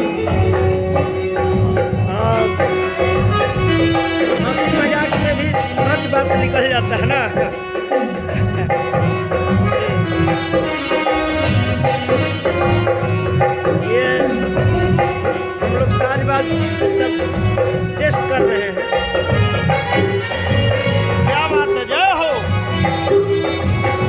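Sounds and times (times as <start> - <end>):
sustained melodic tones: 0.0 - 23.9
percussion beat: 0.0 - 24.0.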